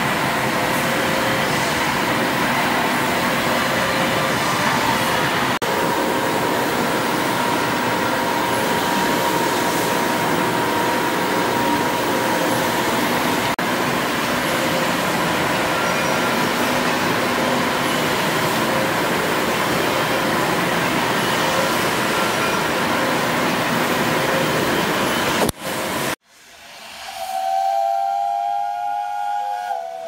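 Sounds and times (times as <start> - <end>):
steam engine hum and hiss: 0.0 - 30.0.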